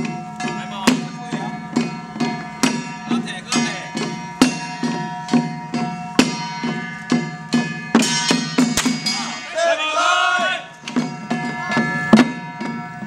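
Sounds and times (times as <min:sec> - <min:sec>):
hand drums and metal percussion: 0:00.0 - 0:09.8, 0:10.4 - 0:13.0
sustained metallic ringing: 0:00.0 - 0:13.0.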